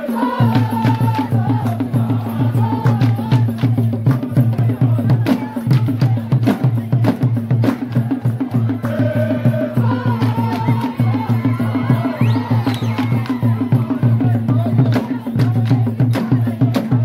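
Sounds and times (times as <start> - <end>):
fast drumming on many drums: 0.0 - 17.0
voices singing or calling: 0.0 - 17.0.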